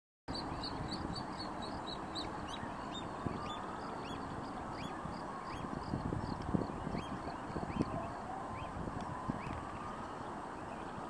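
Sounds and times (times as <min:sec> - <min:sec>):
low rumble of background noise: 0:00.3 - 0:11.0.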